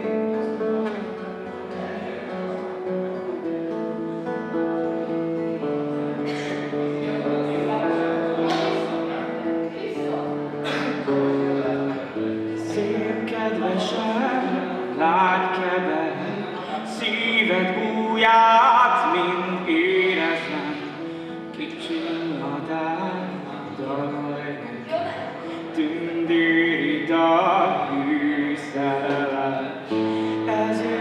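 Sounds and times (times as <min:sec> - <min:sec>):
acoustic guitar chords: 0:00.0 - 0:31.0
man singing: 0:04.8 - 0:31.0.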